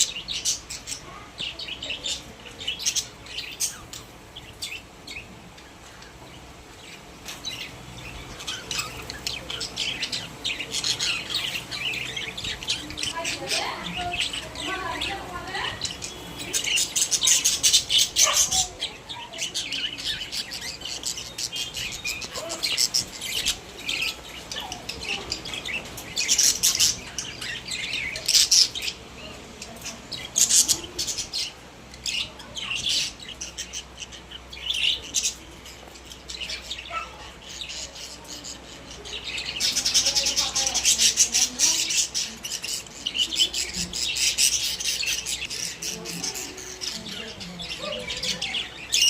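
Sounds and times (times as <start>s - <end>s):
budgerigars chirping and chattering: 0.0s - 49.0s.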